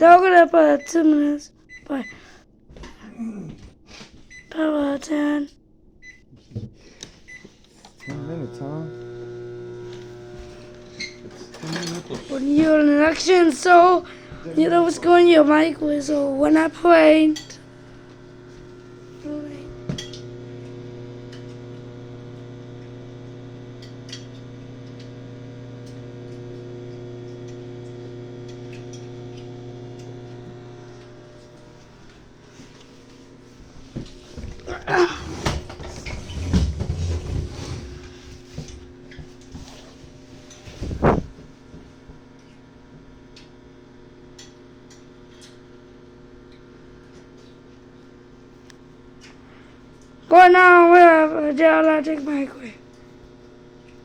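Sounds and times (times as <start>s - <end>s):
microwave oven humming: 0.0s - 54.0s.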